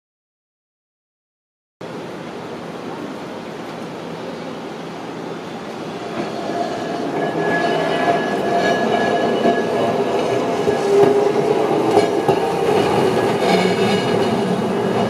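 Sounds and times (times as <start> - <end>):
tram running on tracks: 1.8 - 15.0.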